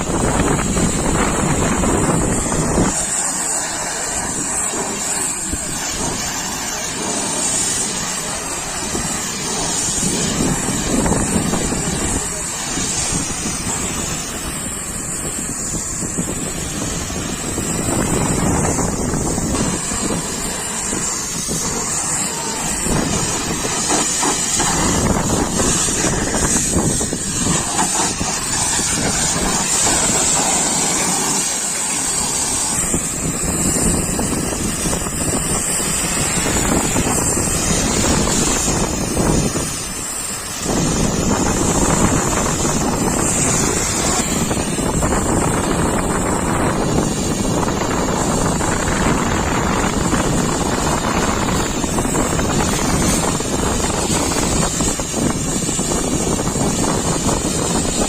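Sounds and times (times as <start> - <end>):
pressure washer spray hissing: 0.0 - 58.0.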